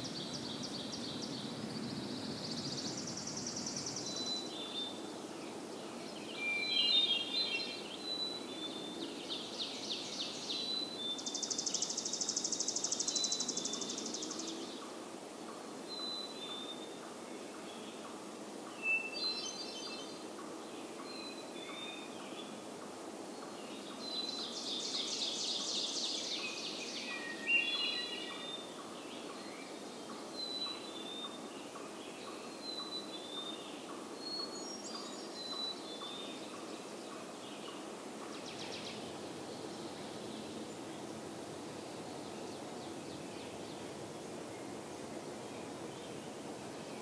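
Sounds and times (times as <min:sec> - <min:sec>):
low background noise: 0:00.0 - 0:47.0.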